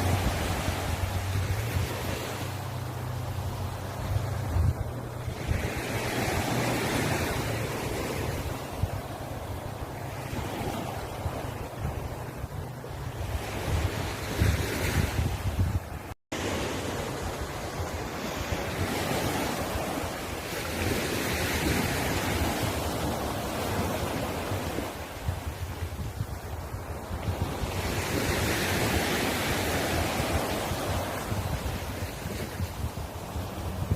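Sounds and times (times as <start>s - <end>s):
sea waves breaking on shore: 0.0s - 33.9s
wind rumbling on microphone: 0.0s - 33.9s.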